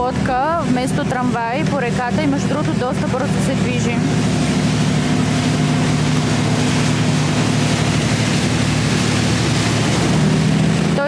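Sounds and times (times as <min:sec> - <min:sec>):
boat engine humming: 0:00.0 - 0:11.0
water rushing: 0:00.0 - 0:11.0.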